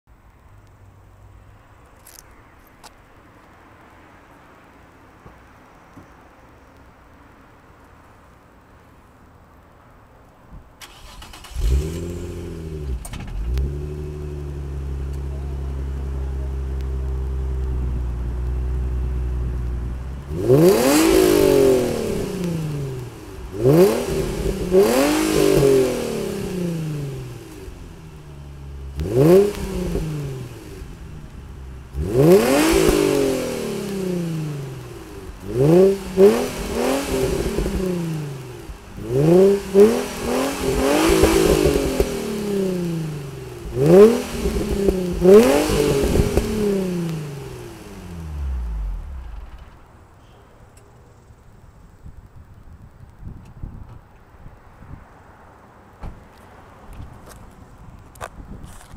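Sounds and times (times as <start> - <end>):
car engine idling and revving: 0.1 - 58.9.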